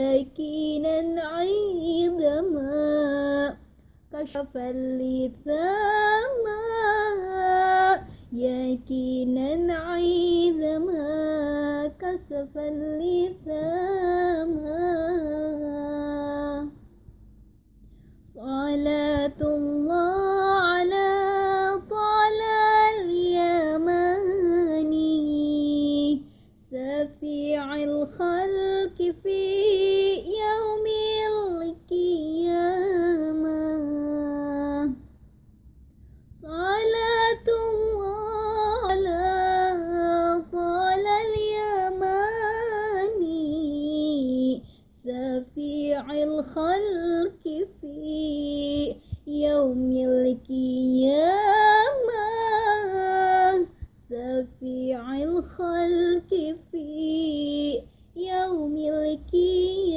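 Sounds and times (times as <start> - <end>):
woman singing unaccompanied: 0.0 - 16.8, 18.2 - 35.1, 36.3 - 59.9.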